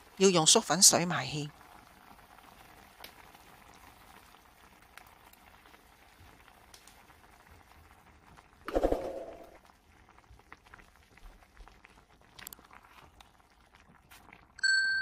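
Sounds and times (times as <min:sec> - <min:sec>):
sauce bubbling in a pot: 0:00.0 - 0:14.6.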